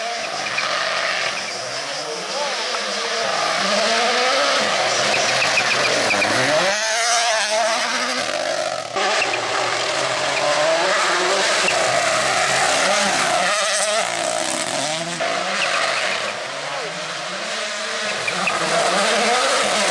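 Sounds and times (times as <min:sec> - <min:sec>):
rally car engine revving: 0:00.0 - 0:19.9.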